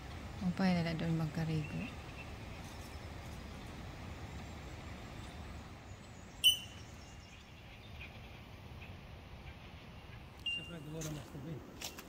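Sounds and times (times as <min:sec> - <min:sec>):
low outdoor background noise: 0:00.0 - 0:12.0
bird chirping: 0:01.4 - 0:11.2.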